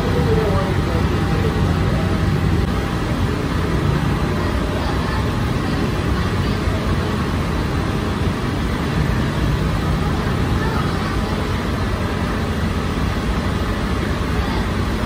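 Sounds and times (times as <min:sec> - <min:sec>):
low drone of machinery: 0:00.0 - 0:15.0.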